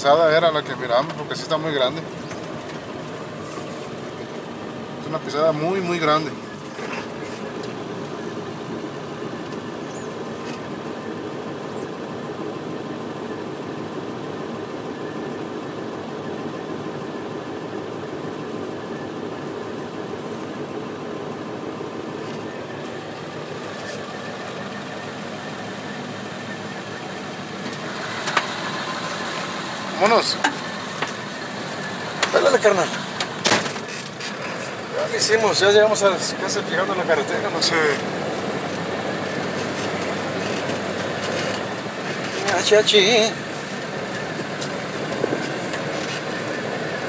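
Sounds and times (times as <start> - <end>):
truck engine and tyre noise: 0.0 - 47.0.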